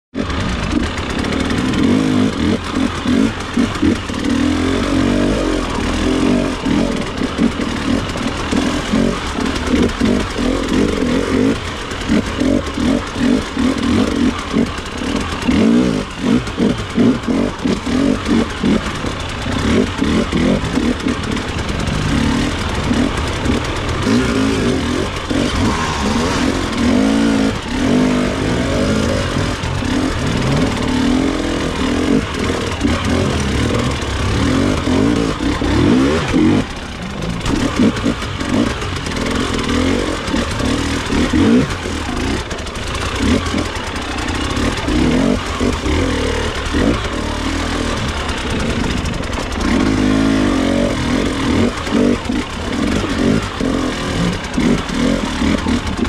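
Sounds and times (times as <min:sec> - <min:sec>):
dirt bike engine revving: 0:00.1 - 0:56.0.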